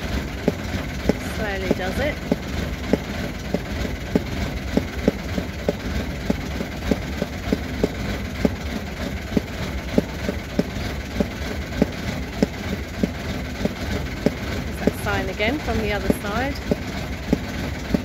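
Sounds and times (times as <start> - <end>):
diesel engine chugging: 0.0 - 18.0.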